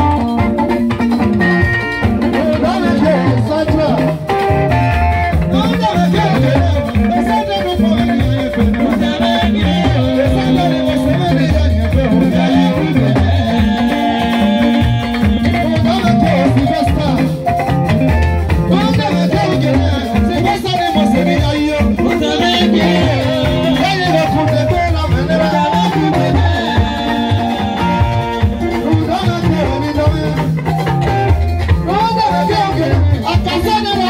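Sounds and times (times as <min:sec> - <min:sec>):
bass line: 0:00.0 - 0:34.0
drums: 0:00.0 - 0:34.0
electric guitar: 0:00.0 - 0:34.0
hand percussion: 0:00.0 - 0:34.0
man singing into a microphone: 0:01.2 - 0:17.8, 0:18.6 - 0:34.0.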